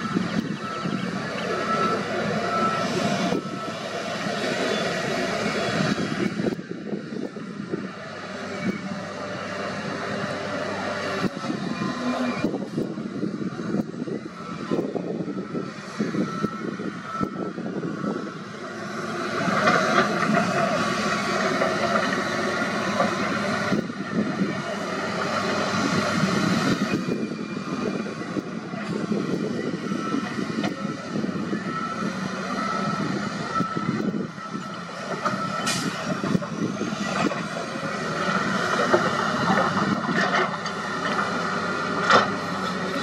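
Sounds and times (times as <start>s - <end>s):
wheel loader diesel engine rumbling: 0.0s - 43.0s.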